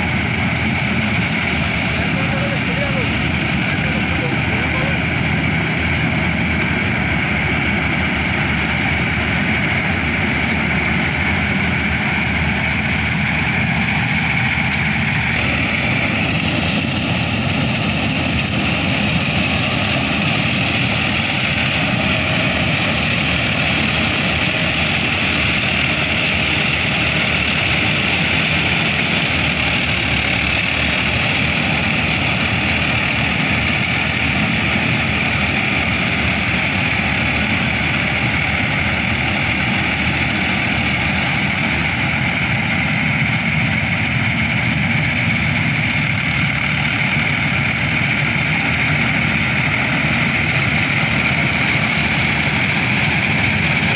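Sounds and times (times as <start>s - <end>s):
combine harvester diesel engine: 0.0s - 53.9s
threshing machinery: 0.0s - 53.9s.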